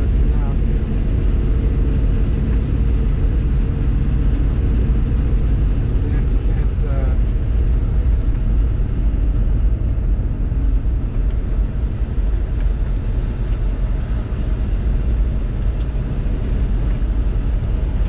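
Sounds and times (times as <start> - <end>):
truck cab road and engine rumble: 0.0 - 18.0.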